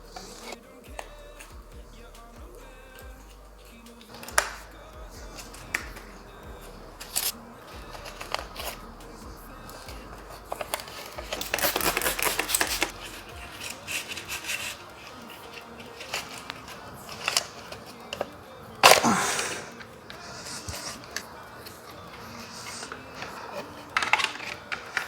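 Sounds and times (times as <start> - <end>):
plastic parts clicking and rattling: 0.0 - 25.0.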